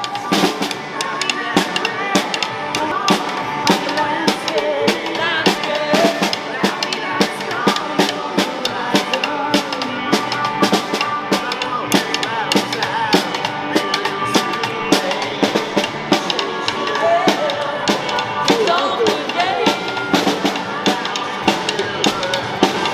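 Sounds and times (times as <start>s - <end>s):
drum kit beat: 0.0s - 22.9s.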